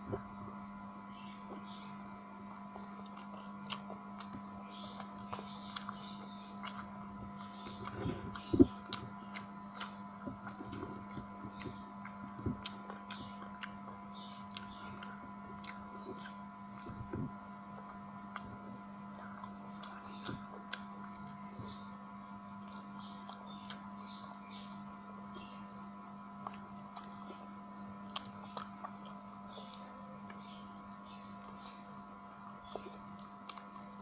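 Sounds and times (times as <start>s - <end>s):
steady electrical hum: 0.0s - 34.0s
person chewing and lip smacking: 2.4s - 34.0s.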